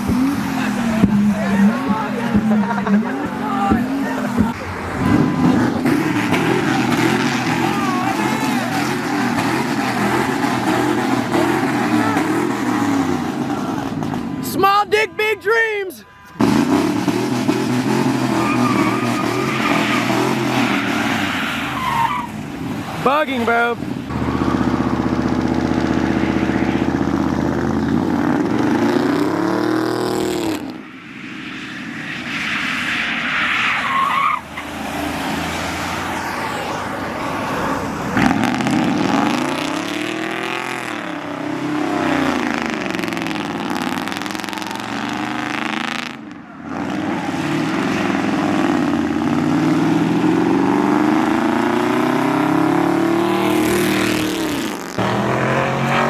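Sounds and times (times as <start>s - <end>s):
sports car engines revving past: 0.0s - 14.5s, 16.3s - 56.0s.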